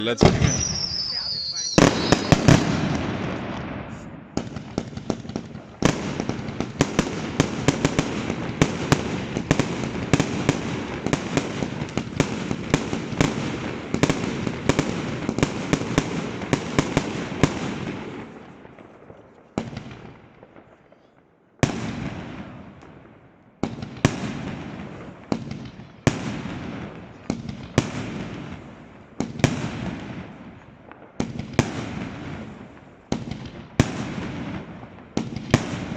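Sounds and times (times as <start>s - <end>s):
fireworks bangs: 0.0s - 35.9s
fireworks crackling and rumbling: 0.0s - 35.9s.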